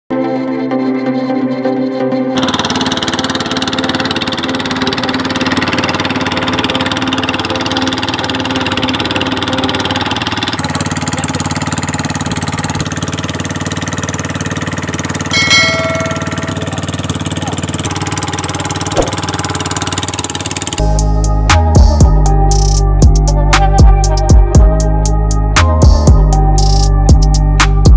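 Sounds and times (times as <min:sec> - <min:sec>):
small engine running: 0:00.6 - 0:27.9.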